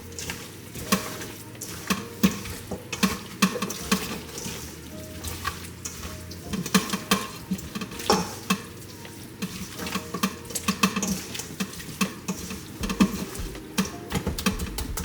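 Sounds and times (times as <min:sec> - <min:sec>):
hands squishing raw meat: 0:00.0 - 0:13.8.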